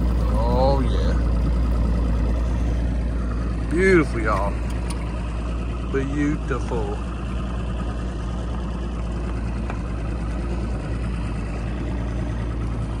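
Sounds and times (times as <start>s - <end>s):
outboard motor humming: 0.0s - 13.0s
rushing water noise: 0.0s - 13.0s.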